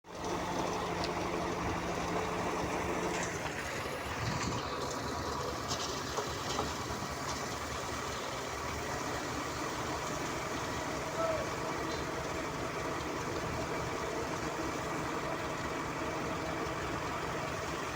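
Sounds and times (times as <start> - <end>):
heavy machinery engine running: 0.0 - 17.9.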